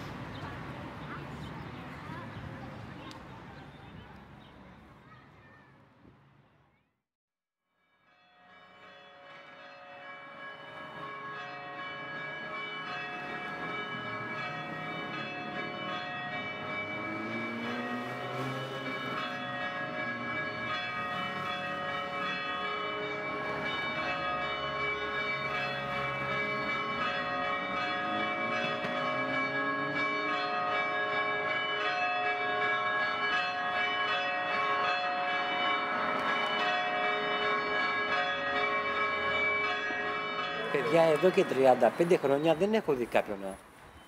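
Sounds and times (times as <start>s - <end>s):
bells ringing: 8.0s - 44.0s.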